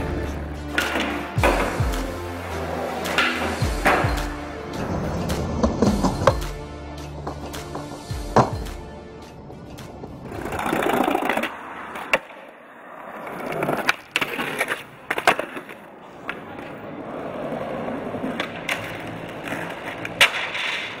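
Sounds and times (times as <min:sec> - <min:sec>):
skateboard deck clacking: 0:00.0 - 0:06.5, 0:09.4 - 0:21.0
skateboard wheels rolling on concrete: 0:00.0 - 0:21.0.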